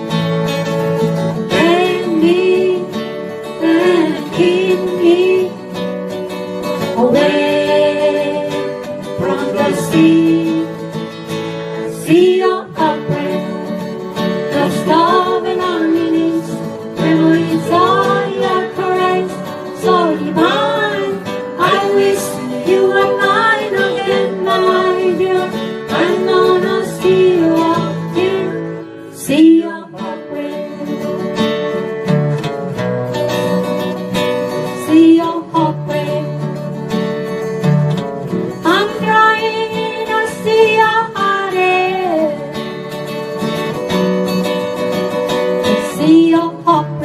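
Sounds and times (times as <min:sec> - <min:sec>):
country guitar instrumental: 0:00.0 - 0:47.0.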